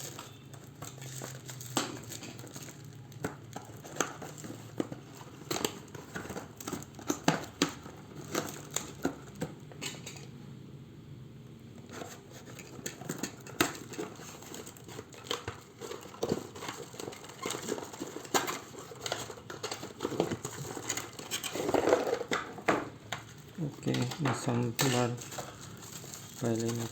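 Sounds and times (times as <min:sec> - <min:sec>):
plastic and paper crinkling: 0:00.0 - 0:10.3, 0:11.8 - 0:26.9.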